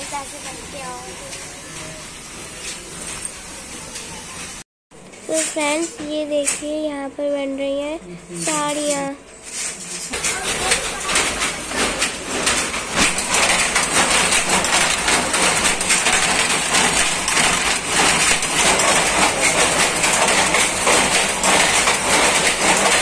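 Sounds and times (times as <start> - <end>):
power looms clattering: 0.0 - 6.8, 8.3 - 23.0.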